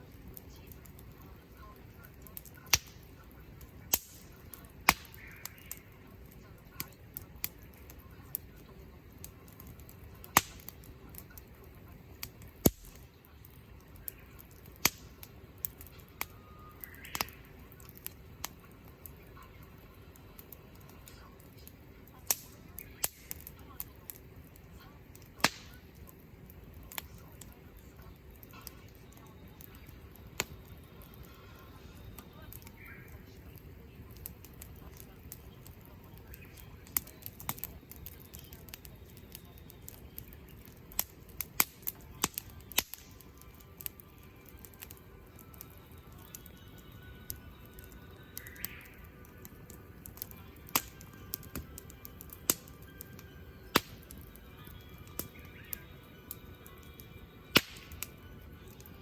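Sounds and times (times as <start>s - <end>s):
faint steady hiss: 0.0s - 59.0s
firewood crackling and popping: 0.0s - 59.0s.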